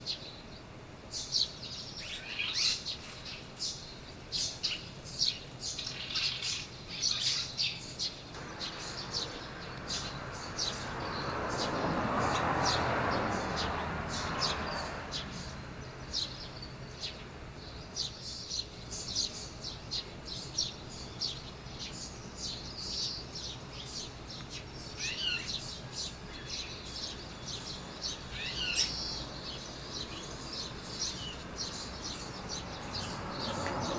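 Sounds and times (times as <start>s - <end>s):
swallows chirping: 0.0s - 33.9s.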